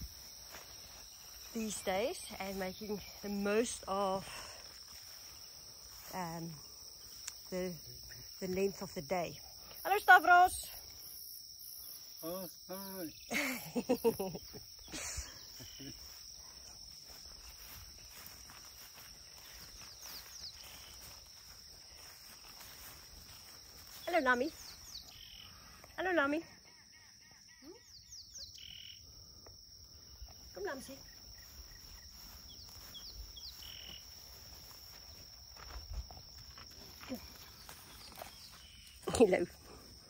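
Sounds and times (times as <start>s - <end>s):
crickets droning: 0.0s - 40.0s
insects chirring: 0.0s - 40.0s.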